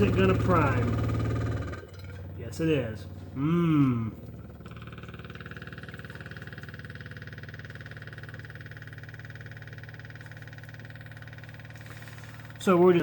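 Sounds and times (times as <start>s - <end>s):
fluid transfer pump pulsing and whining: 0.0s - 13.0s.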